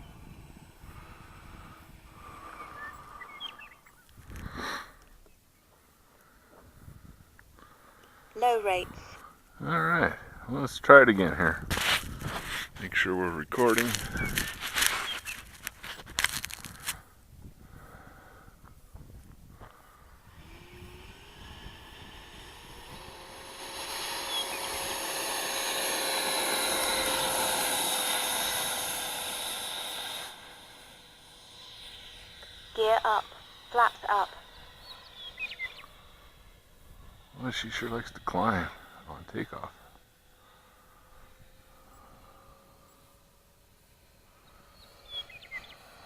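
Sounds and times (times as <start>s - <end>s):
electric ducted-fan motor whine: 0.0s - 46.0s.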